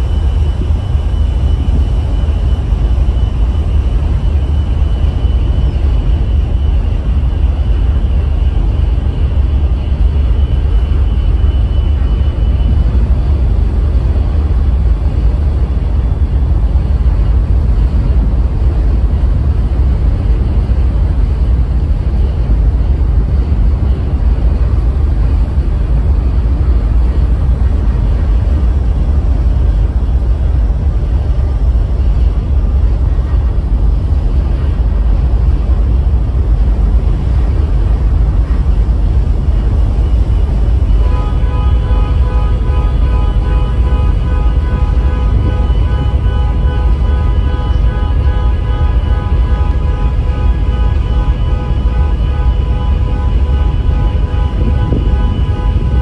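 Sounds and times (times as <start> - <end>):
faint high whine: 0.0 - 56.0
ferry engine rumble: 0.0 - 56.0.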